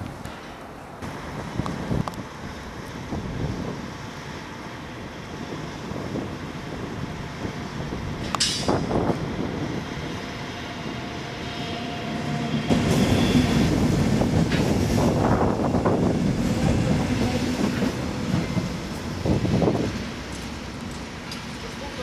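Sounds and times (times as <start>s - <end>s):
train rumbling on tracks: 0.0s - 22.0s.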